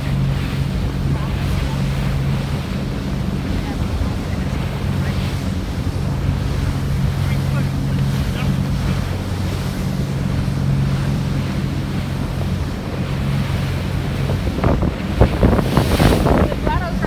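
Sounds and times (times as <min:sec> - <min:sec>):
boat engine humming: 0:00.0 - 0:17.0
water rushing past hull: 0:00.0 - 0:17.0
wind buffeting microphone: 0:00.0 - 0:17.0.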